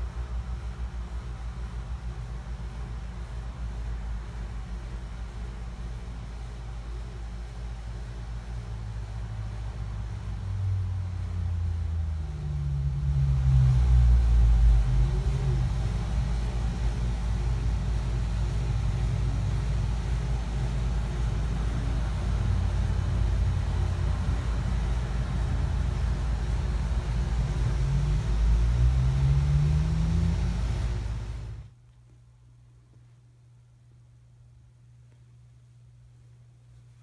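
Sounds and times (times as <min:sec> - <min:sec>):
motor rumble with shifting hum: 0:00.0 - 0:31.8.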